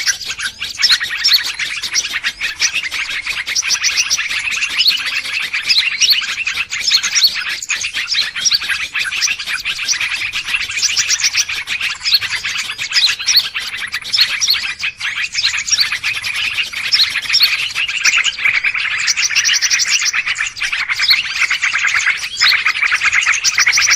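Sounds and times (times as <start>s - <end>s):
flock of small birds chirping: 0.0s - 23.9s.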